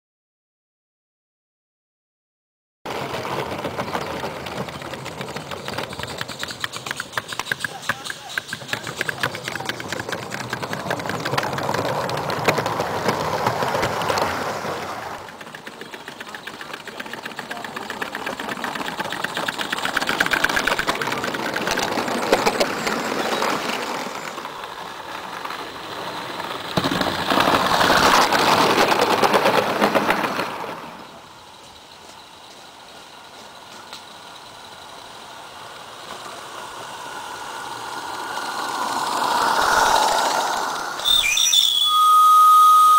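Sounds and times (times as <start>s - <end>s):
model train wheels clattering: 2.9s - 41.0s.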